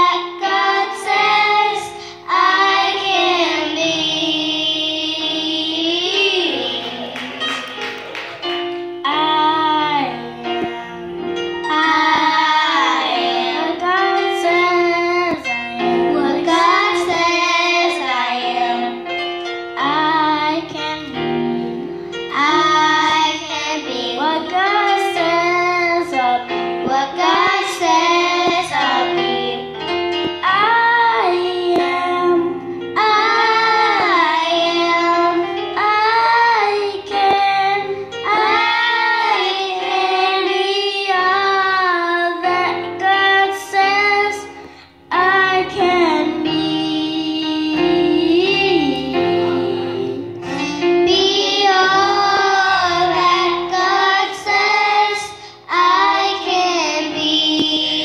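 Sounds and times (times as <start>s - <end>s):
girls singing into microphones: 0.0s - 7.5s, 9.0s - 19.2s, 19.8s - 58.0s
instrumental accompaniment: 0.0s - 58.0s.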